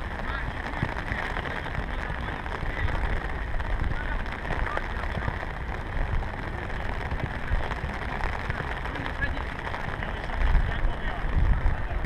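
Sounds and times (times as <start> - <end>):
low rumble: 0.0 - 12.0
raindrops ticking: 0.0 - 12.0.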